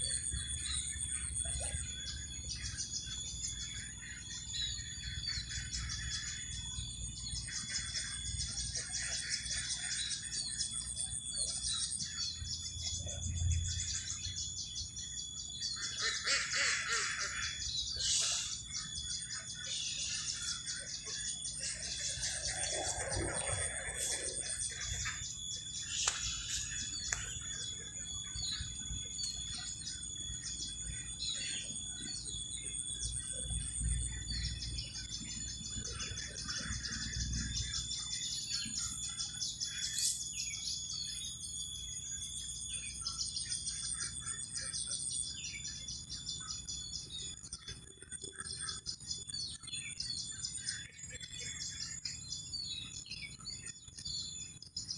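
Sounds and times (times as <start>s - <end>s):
birds chirping: 0.0s - 54.9s
high-pitched insect tones: 0.0s - 54.9s
insects trilling: 0.0s - 54.9s.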